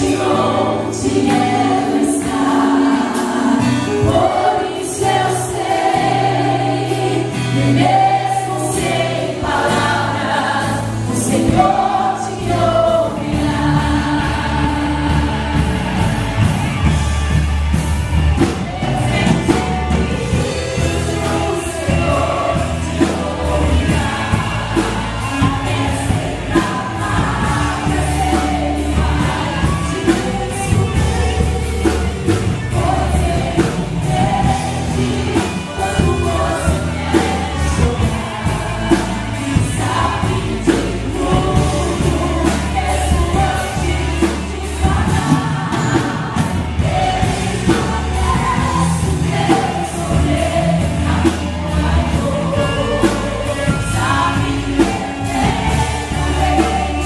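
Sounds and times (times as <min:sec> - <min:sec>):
gospel band playing: 0:00.0 - 0:57.0
group of singers: 0:00.0 - 0:57.0.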